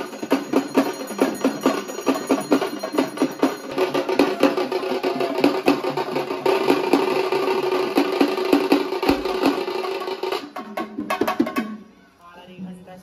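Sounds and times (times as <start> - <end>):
fast rhythmic drumming: 0.0 - 11.8.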